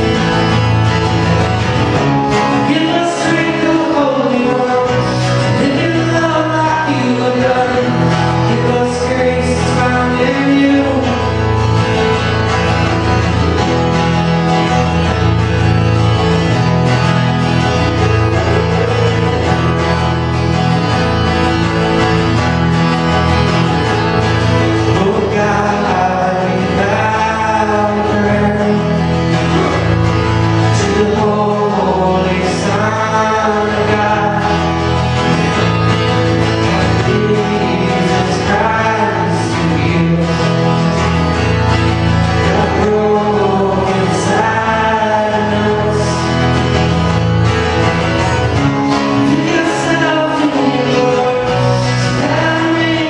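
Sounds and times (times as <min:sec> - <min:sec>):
person singing: 0:00.0 - 0:47.2, 0:47.9 - 0:53.0
acoustic guitar: 0:00.0 - 0:53.0
band accompaniment: 0:00.0 - 0:53.0.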